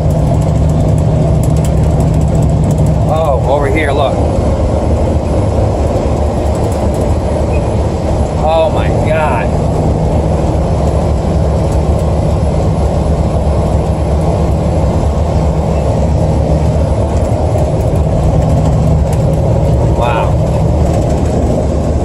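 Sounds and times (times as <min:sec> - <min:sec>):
car cabin road and engine drone: 0:00.0 - 0:22.0.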